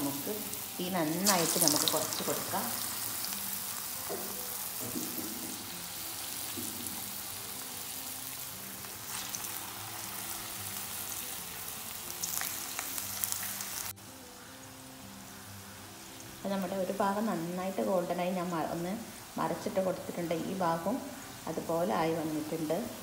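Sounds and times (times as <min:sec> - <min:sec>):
oil sizzling while deep-frying: 0:00.0 - 0:23.0.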